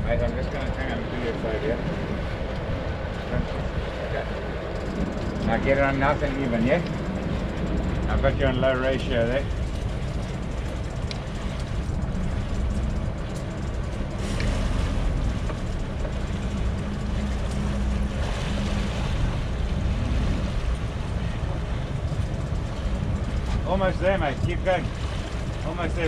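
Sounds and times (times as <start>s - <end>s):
motorboat engines droning: 0.0s - 26.0s
propellers churning water: 0.0s - 26.0s.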